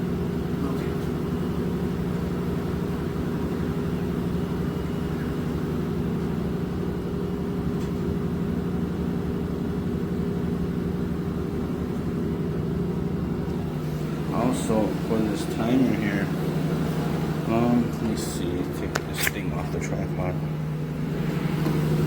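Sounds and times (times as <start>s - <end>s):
laundry machine humming: 0.0s - 22.0s.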